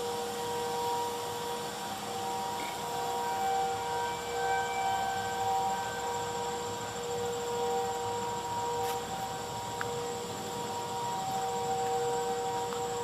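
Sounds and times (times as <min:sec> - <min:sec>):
distant warning siren: 0:00.0 - 0:13.0.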